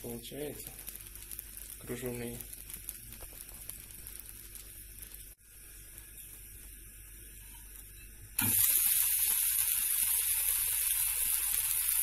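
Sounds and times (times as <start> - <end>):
pancake sizzling in a pan: 0.0 - 12.0.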